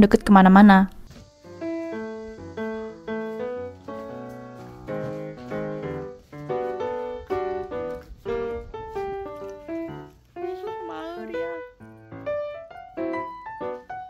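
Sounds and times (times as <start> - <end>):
light piano tune: 0.0 - 14.0.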